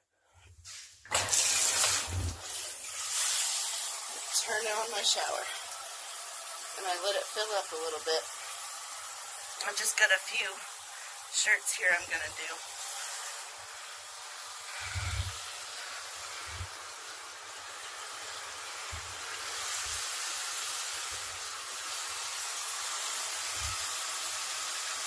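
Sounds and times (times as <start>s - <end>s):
water spraying into a tub: 0.6s - 25.0s.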